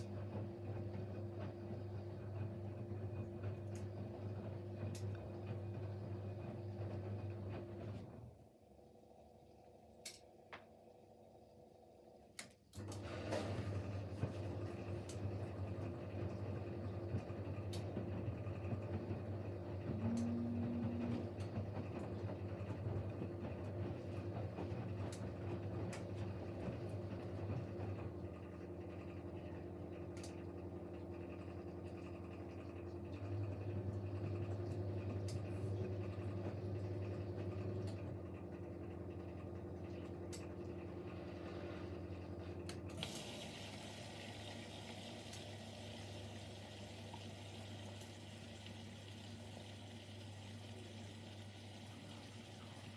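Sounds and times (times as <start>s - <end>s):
washing machine drain pump humming: 0.0s - 10.2s, 12.7s - 52.9s.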